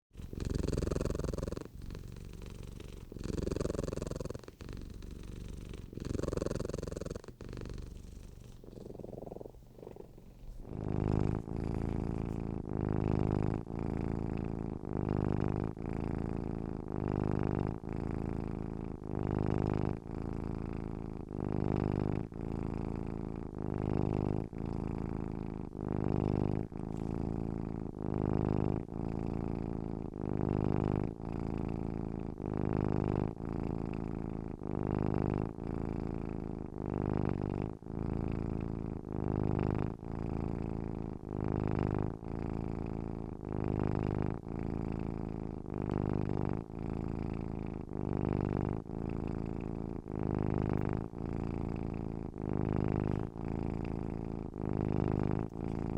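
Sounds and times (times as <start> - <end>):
cat purring: 0.0 - 55.9.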